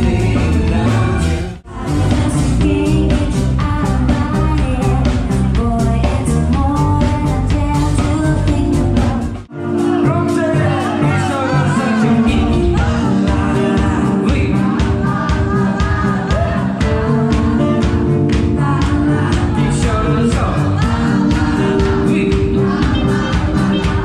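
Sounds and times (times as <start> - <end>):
person singing: 0.0 - 24.0
steady drum beat: 0.0 - 24.0.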